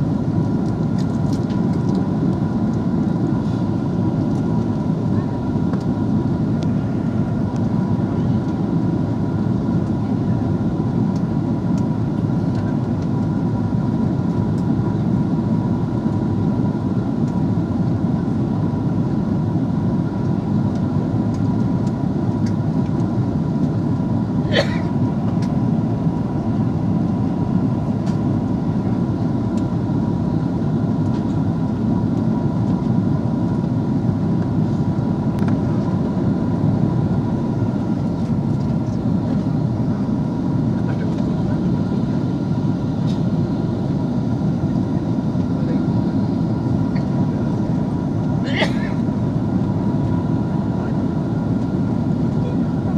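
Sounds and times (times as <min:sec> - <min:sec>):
aircraft engine and airflow rumble: 0:00.0 - 0:52.9.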